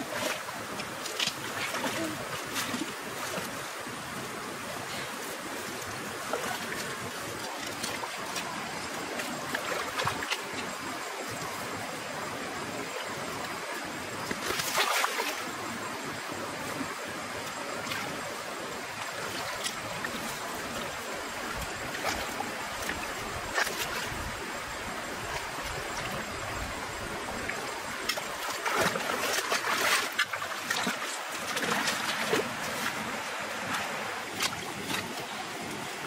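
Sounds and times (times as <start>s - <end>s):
muddy water splashing: 0.0s - 36.0s.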